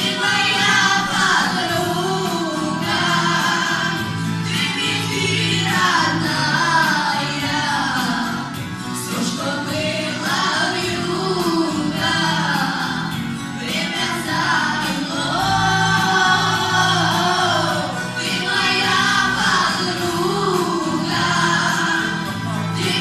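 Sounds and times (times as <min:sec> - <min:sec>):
musical accompaniment: 0:00.0 - 0:23.0.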